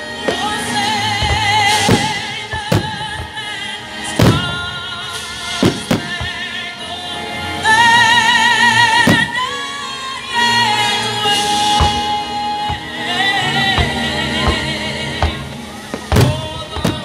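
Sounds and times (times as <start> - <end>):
fireworks bursting: 0.0 - 6.9, 7.7 - 17.0
loud music: 0.0 - 17.0.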